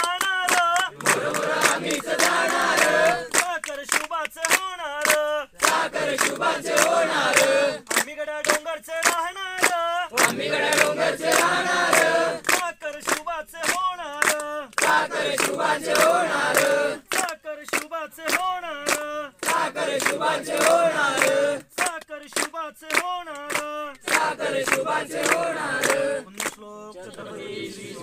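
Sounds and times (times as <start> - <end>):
hand claps: 0.0 - 27.3
group singing response: 0.0 - 28.0
lead voice singing: 0.0 - 28.0.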